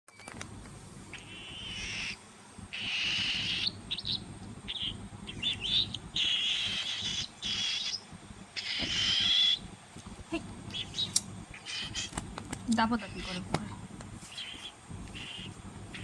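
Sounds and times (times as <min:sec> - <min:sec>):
cockatiel chicks begging calls: 0:01.1 - 0:16.0.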